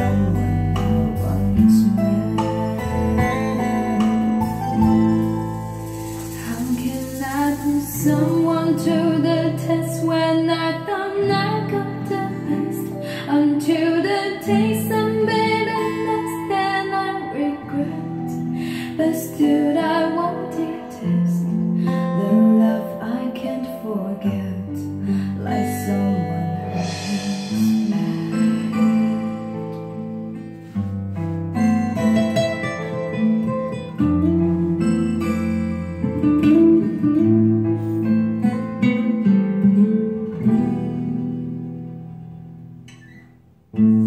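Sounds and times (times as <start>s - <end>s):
song with vocals and guitar: 0.0s - 44.0s.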